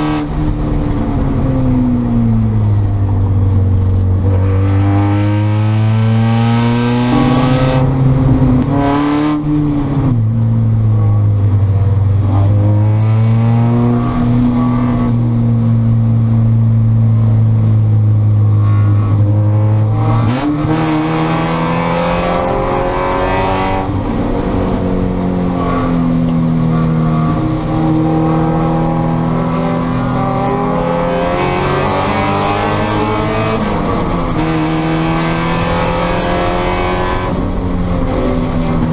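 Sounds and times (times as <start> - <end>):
race car engine accelerating: 2.0 - 38.9.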